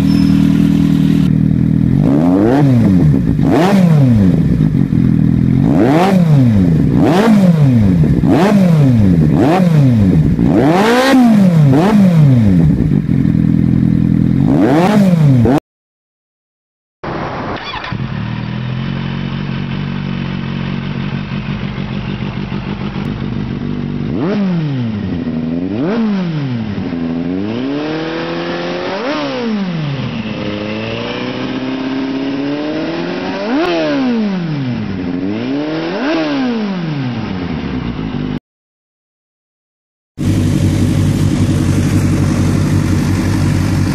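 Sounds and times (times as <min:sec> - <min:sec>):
motorcycle engine idling and revving: 0:00.0 - 0:15.6, 0:17.6 - 0:38.4, 0:40.2 - 0:43.9.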